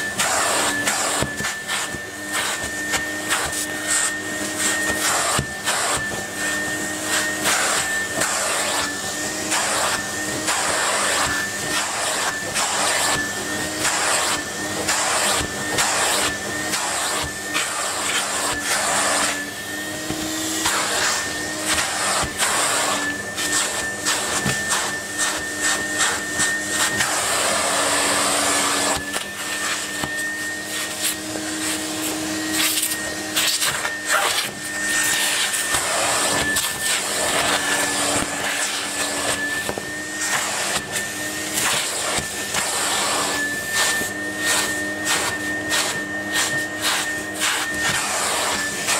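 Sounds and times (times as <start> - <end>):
vacuum cleaner motor whine: 0.0 - 48.9.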